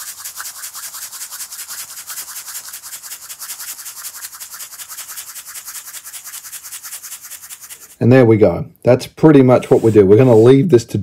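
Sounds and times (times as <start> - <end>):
dust rubbed through a stocking: 0.0 - 8.0, 9.6 - 10.6.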